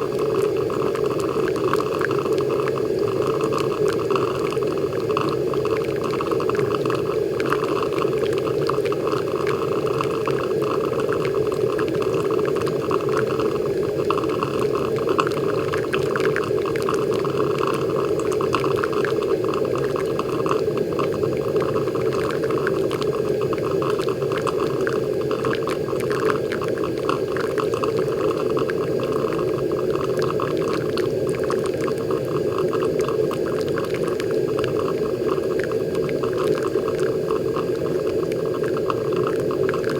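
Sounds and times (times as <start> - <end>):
coffee maker gurgling: 0.0 - 39.9
water dripping onto coffee grounds: 0.0 - 39.9
small crackles: 0.1 - 39.9.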